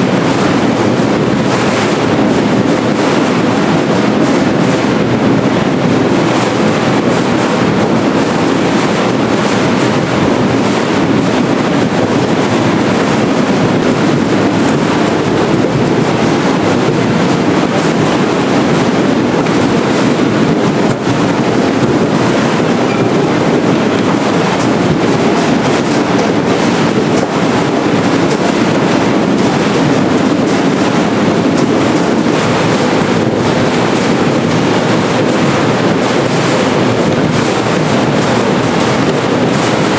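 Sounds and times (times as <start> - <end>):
conveyor mechanical rattle: 0.0 - 39.9.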